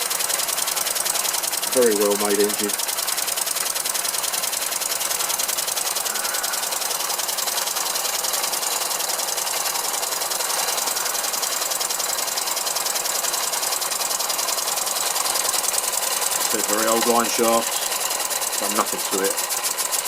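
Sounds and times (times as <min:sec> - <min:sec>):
line shaft and toy machines running: 0:00.0 - 0:20.0
small steam engine clattering: 0:00.0 - 0:20.0.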